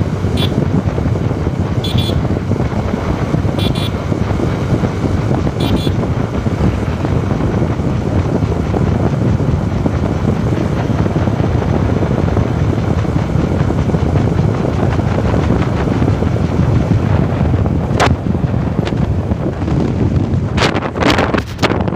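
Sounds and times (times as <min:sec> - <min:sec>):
motorcycle engine and road noise: 0:00.0 - 0:21.9
wind buffeting microphone: 0:00.0 - 0:21.9.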